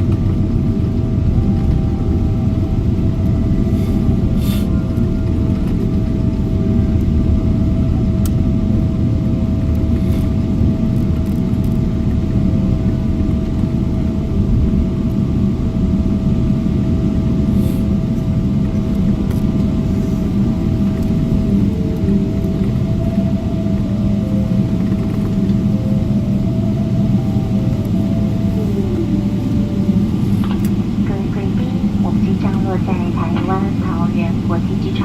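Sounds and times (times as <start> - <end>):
airliner cabin rumble: 0.0 - 35.0
steady mid-pitched whine: 0.0 - 35.0.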